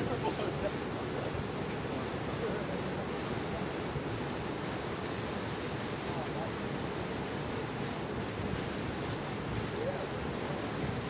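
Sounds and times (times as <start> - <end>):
water noise from boat: 0.0 - 11.0.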